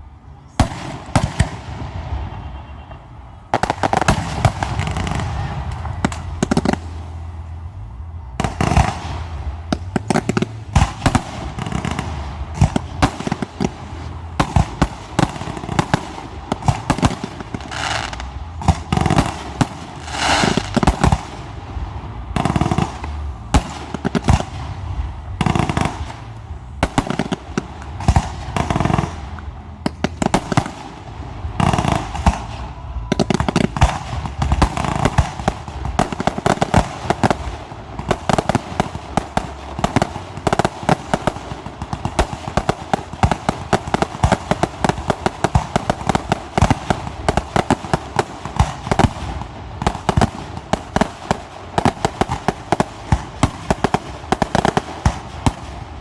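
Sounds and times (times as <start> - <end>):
firework launch reports: 0.0 - 56.0
fireworks crackling: 0.0 - 56.0.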